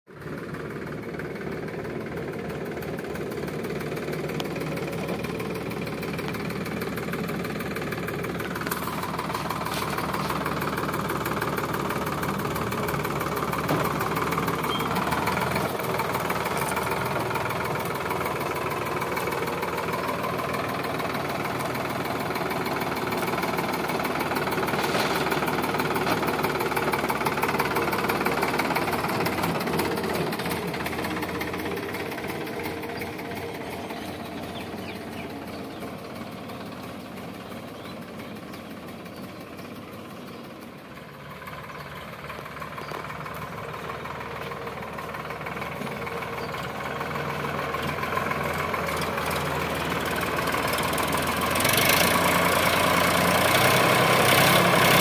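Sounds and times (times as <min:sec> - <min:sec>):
tractor diesel engine running: 0:00.1 - 0:55.0.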